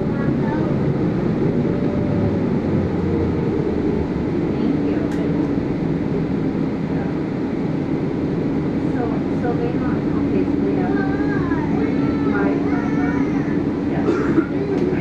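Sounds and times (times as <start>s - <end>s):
bus engine and road rumble: 0.0s - 15.0s
faint drivetrain whine: 0.0s - 15.0s.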